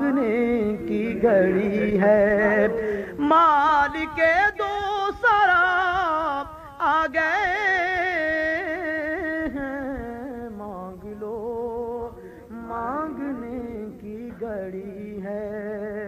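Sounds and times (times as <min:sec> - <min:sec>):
man singing long wavering notes: 0:00.0 - 0:16.0.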